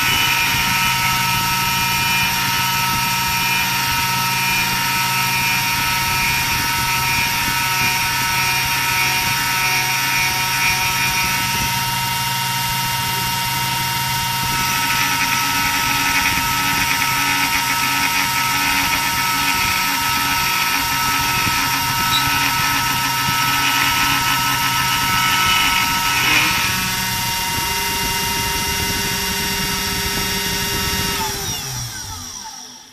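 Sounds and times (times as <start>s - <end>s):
end mill cutting wood: 0.0s - 32.9s
router spindle whine: 0.0s - 32.9s.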